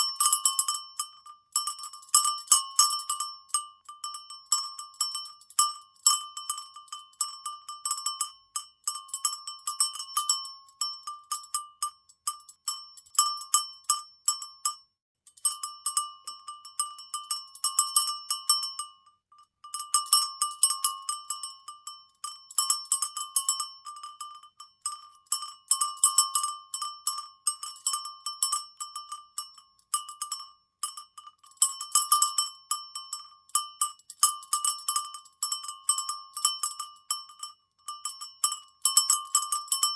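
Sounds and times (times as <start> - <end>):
cowbell clanking: 0.0 - 14.8, 19.7 - 39.9.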